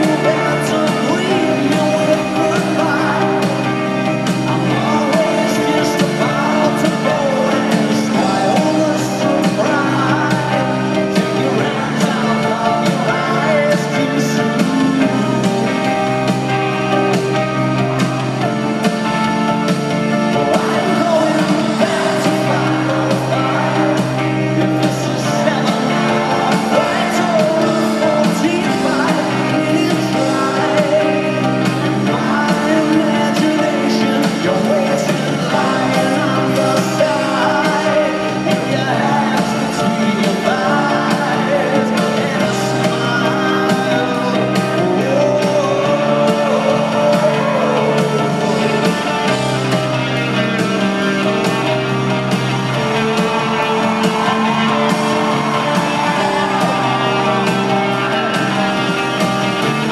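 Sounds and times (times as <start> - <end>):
drums: 0.0 - 59.9
electric guitars: 0.0 - 59.9
keyboards: 0.0 - 59.9
person singing: 0.0 - 59.9
sustained bass chords: 0.0 - 59.9.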